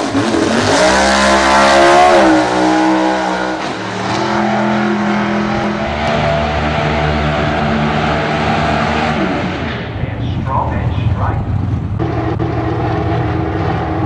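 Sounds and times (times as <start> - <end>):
pickup truck engine at full throttle: 0.0 - 14.0.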